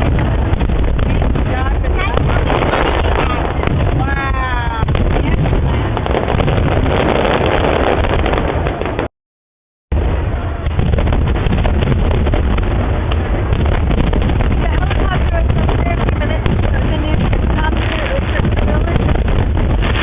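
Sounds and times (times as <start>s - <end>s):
fireworks booming and crackling: 0.0s - 9.1s, 9.9s - 20.0s
steady low rumble: 0.0s - 9.1s, 9.9s - 20.0s
wind buffeting microphone: 0.0s - 9.1s, 9.9s - 20.0s.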